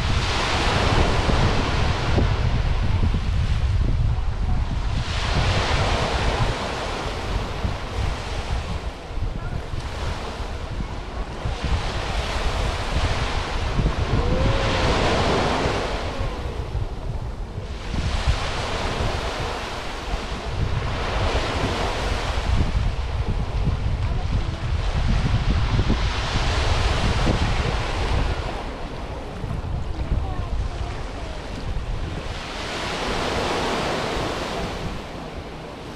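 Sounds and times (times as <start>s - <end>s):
sea waves washing onto beach: 0.0s - 35.9s
wind rumble on microphone: 0.0s - 35.9s.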